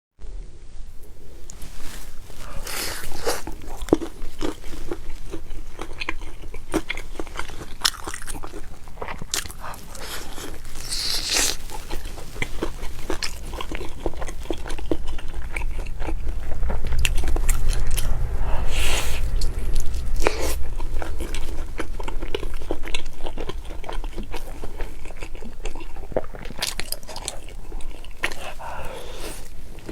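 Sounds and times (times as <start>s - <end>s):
person chewing crispy food: 1.2s - 17.6s, 20.0s - 29.9s.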